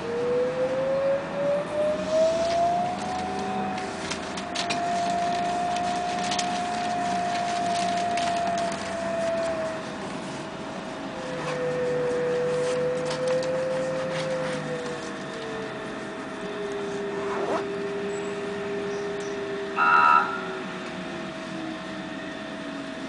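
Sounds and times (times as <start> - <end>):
trolleybus electric whine: 0.0 - 23.0.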